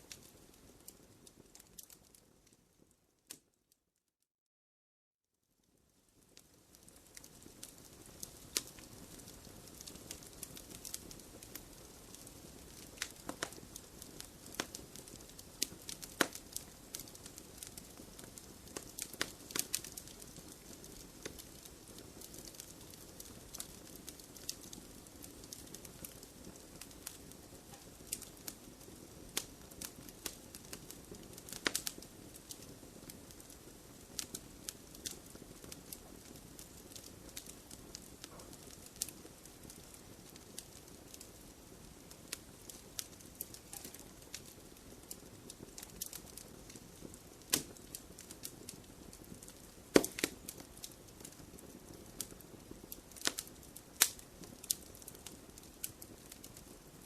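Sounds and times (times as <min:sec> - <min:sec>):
wood fire crackling: 0:00.0 - 0:03.5, 0:05.6 - 0:57.0.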